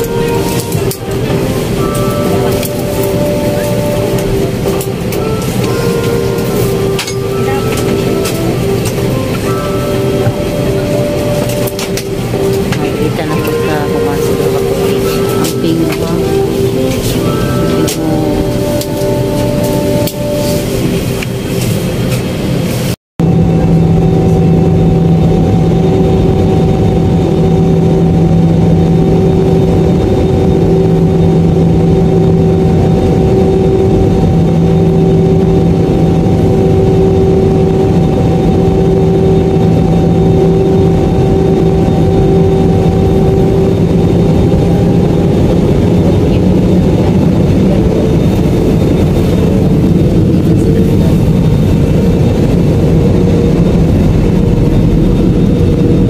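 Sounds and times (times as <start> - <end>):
constant hums: 0.0 - 56.0
jet engine drone in cabin: 0.0 - 56.0.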